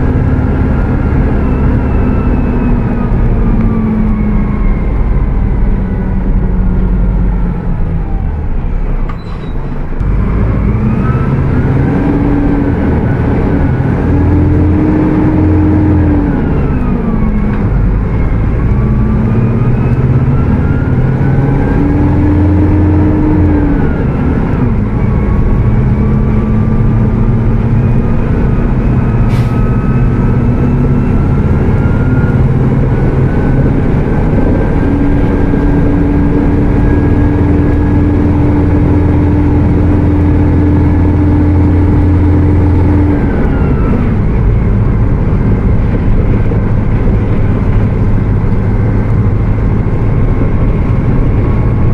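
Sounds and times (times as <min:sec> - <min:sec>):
bus diesel engine revving: 0:00.0 - 0:51.9.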